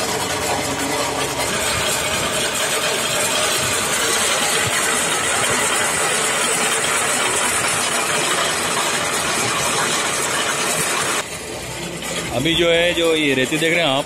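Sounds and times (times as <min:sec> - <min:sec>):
electric motor running: 0:00.0 - 0:11.3
mortar churning in drum: 0:00.0 - 0:14.0.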